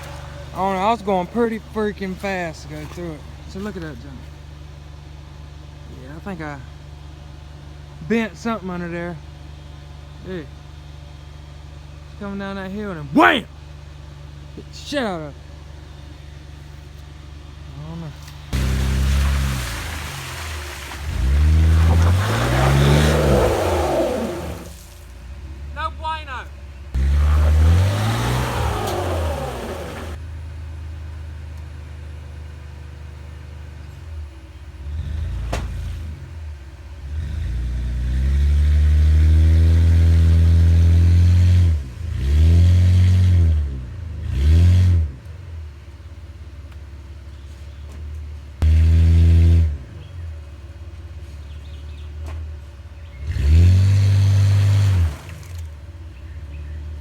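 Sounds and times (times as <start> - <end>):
truck engine revving: 0.0 - 5.0, 5.8 - 16.9, 17.5 - 30.4, 34.0 - 45.7, 48.6 - 50.6, 53.0 - 57.0.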